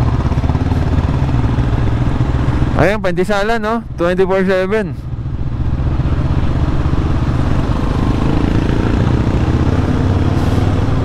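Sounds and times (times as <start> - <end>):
motorcycle engine running: 0.0 - 3.2, 3.8 - 11.0.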